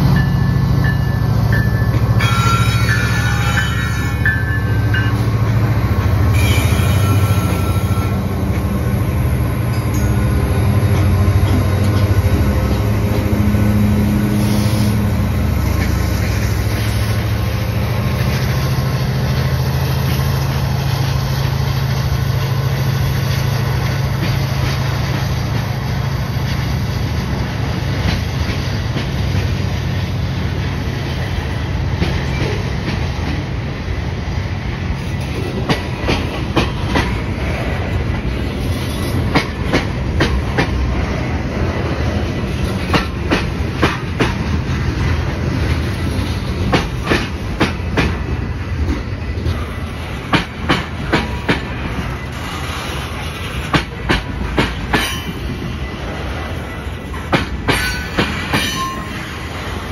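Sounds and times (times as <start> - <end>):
diesel locomotive engines droning: 0.0 - 59.9
steel wheels rumbling on rails: 0.0 - 59.9.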